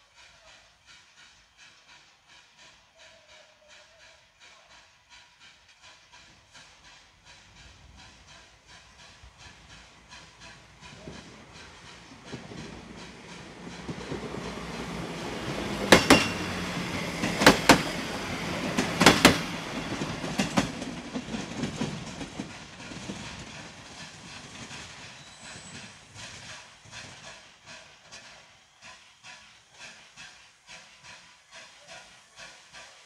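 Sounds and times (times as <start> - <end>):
diesel railcar passing: 0.0 - 33.0
train wheels clacking on rail joints: 0.1 - 33.0.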